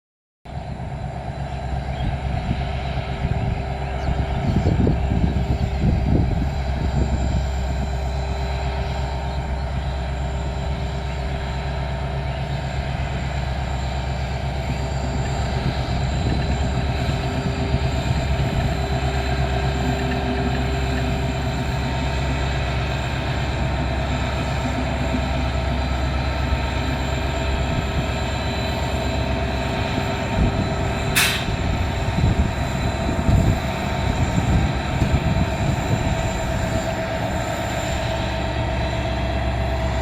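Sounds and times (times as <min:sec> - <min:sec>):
passenger train rumbling: 0:00.5 - 0:40.0
heavy train clattering: 0:00.6 - 0:40.0.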